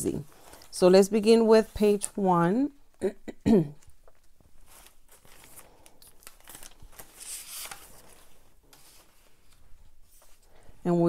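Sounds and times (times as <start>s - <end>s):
paper rustling: 0.2s - 2.2s, 3.8s - 10.8s.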